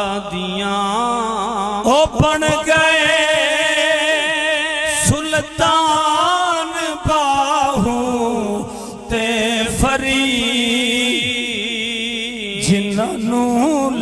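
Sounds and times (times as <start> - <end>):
man singing through loudspeakers: 0.0 - 14.0.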